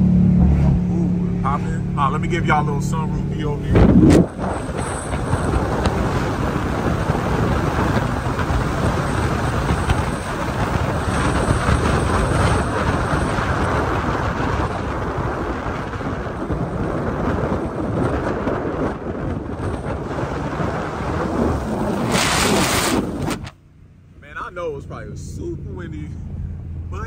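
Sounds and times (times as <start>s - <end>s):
road rumble: 0.0s - 27.0s
wind buffeting microphone: 0.4s - 23.5s.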